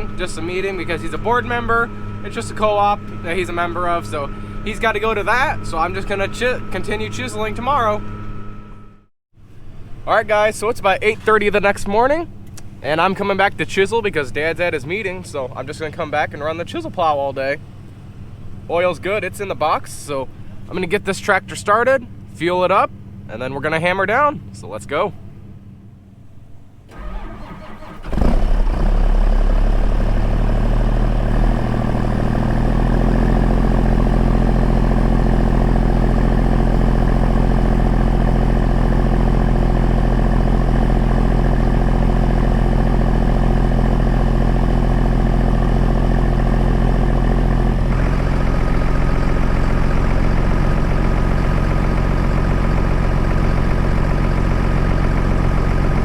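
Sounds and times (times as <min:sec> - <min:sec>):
diesel engine starting and idling: 0:00.0 - 0:56.0.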